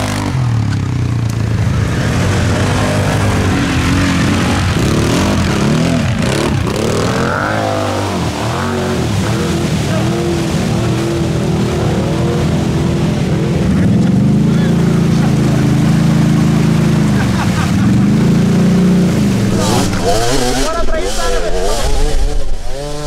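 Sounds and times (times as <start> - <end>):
quad bike engines revving: 0.0 - 23.0.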